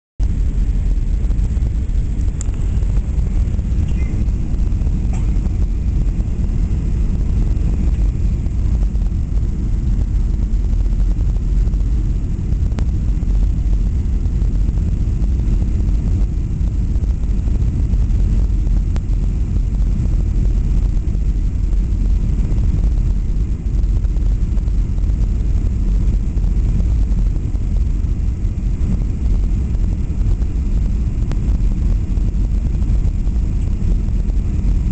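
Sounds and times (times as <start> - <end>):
airplane cabin engine rumble: 0.2 - 34.9.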